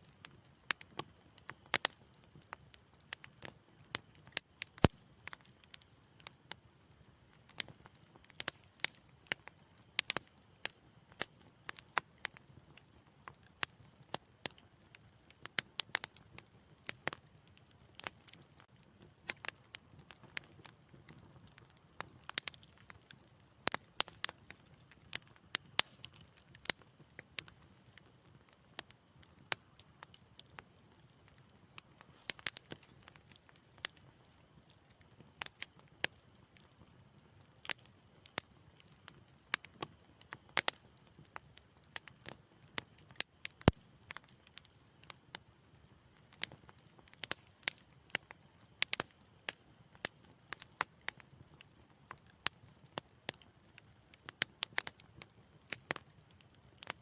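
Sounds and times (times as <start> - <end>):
wood fire crackling: 0.0 - 57.0
low hiss of flames: 0.1 - 57.0.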